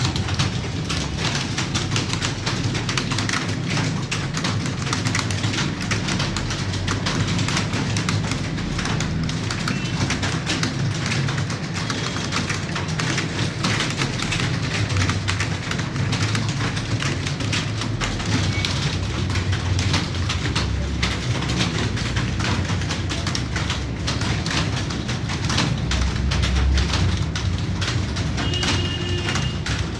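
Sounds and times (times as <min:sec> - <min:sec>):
keyboards clattering: 0:00.0 - 0:29.9.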